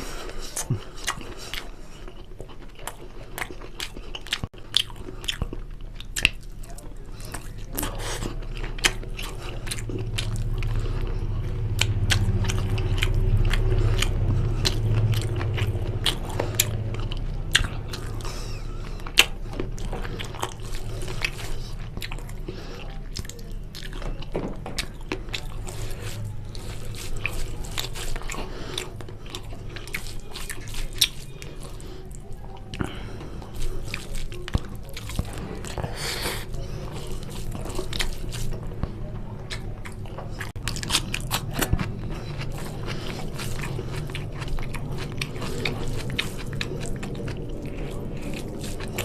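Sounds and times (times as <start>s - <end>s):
chewing food: 0.0s - 49.0s
low steady hum: 0.0s - 49.0s.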